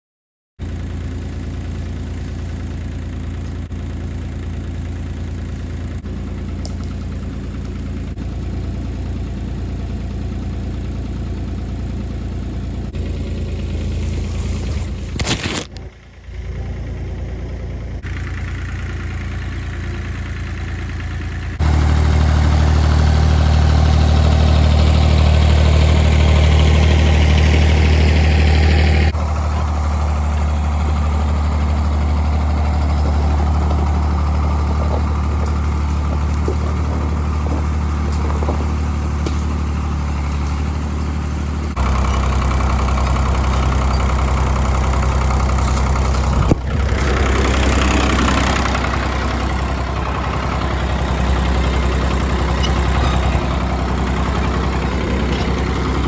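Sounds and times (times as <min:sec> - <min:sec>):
tractor diesel engine running: 0:00.6 - 0:56.0.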